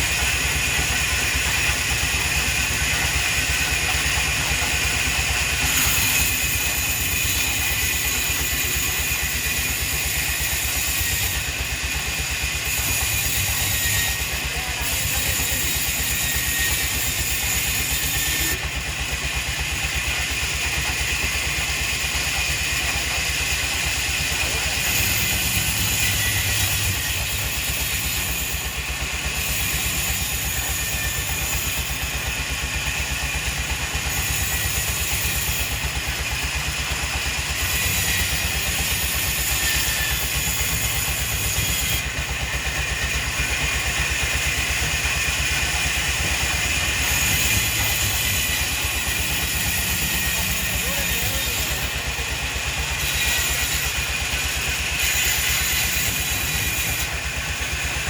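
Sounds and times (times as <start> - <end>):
sawmill machinery rattling: 0.0 - 58.0.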